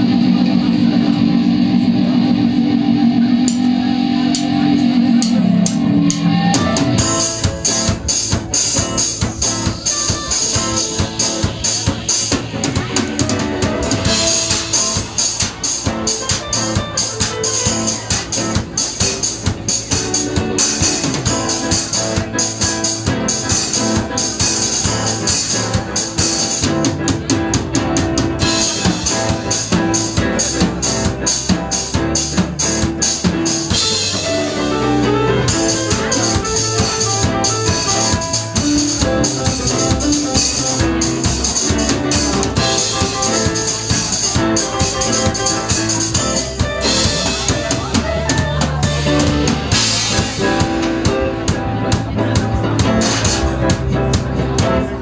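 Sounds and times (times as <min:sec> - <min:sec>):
drum kit fast beat with cymbals: 0:00.0 - 0:55.0
held low keyboard chord: 0:00.0 - 0:55.0
live band playing: 0:00.0 - 0:55.0.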